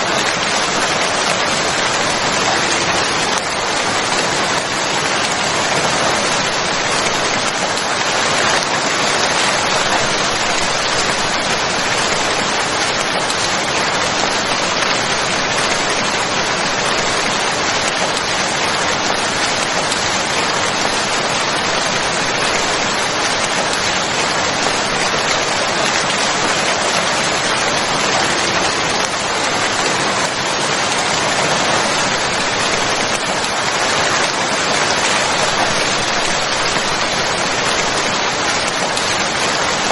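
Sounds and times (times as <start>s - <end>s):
dense rain pattering: 0.0s - 39.9s.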